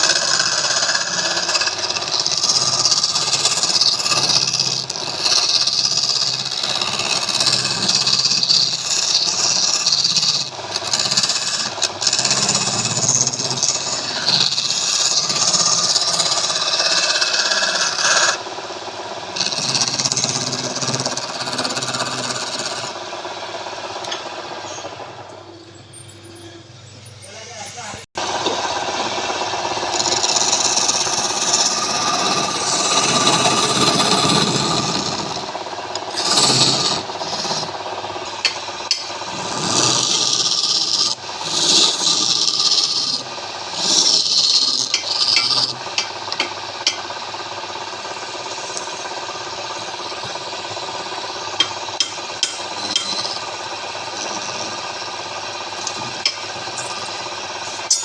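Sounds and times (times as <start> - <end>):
wood lathe humming: 0.0 - 25.7, 27.8 - 58.0
tool scraping spinning wood: 0.0 - 58.0.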